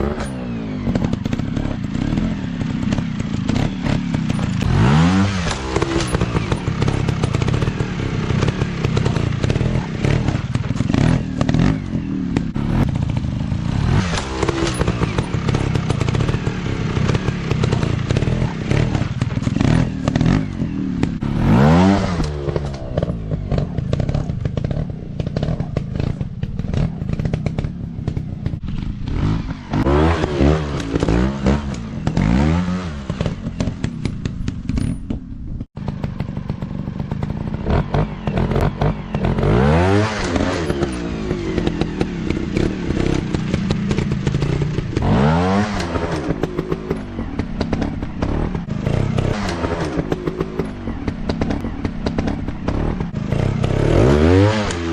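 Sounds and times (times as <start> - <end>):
bikes clattering over rough ground: 0.0 - 54.8
dirt bike engines revving: 0.0 - 54.9.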